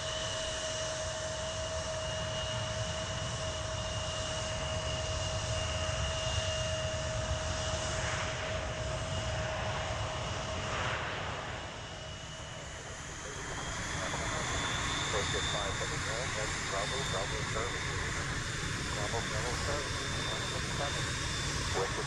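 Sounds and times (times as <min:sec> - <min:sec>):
jet engine whine and rumble: 0:00.0 - 0:22.0.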